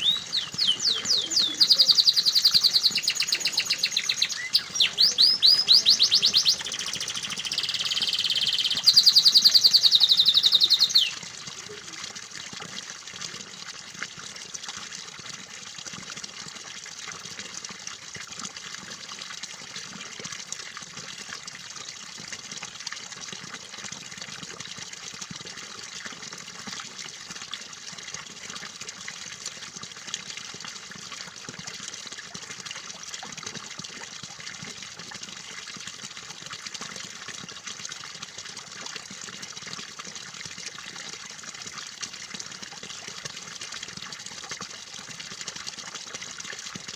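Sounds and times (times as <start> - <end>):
running water trickling: 0.0 - 46.9.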